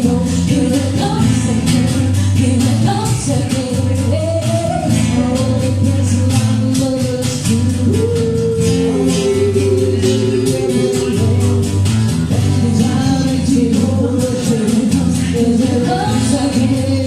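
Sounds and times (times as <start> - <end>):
person singing: 0.0 - 17.0.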